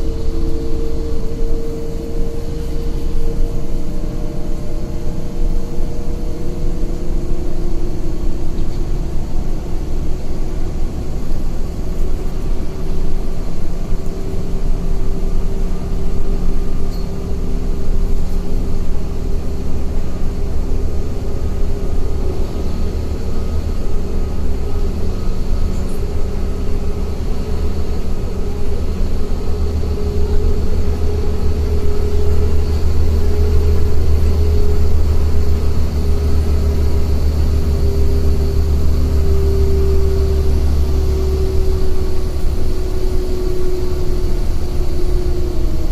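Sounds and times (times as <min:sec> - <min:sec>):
bus engine and road rumble: 0:00.0 - 0:45.9
faint rising whine: 0:00.0 - 0:45.9.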